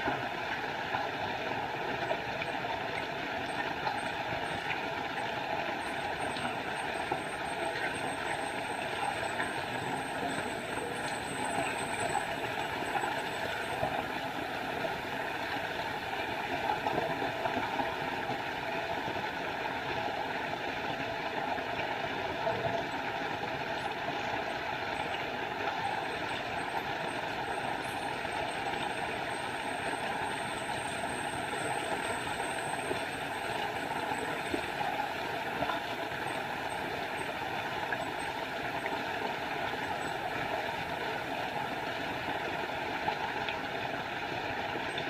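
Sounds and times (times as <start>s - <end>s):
waterfall: 0.0s - 45.0s.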